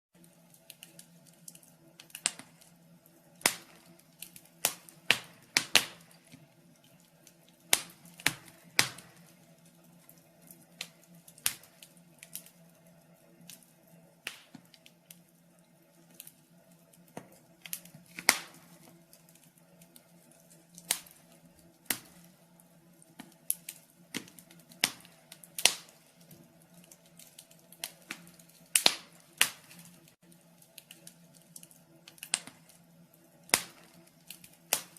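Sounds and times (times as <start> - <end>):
faint steady hum: 0.2 - 34.9
wood fire crackling: 0.2 - 34.9.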